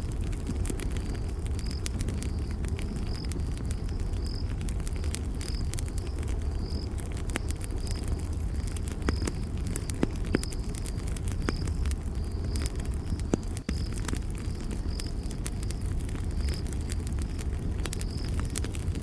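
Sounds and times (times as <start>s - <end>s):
campfire crackling and popping: 0.0s - 19.0s
cricket chirping: 0.3s - 19.0s.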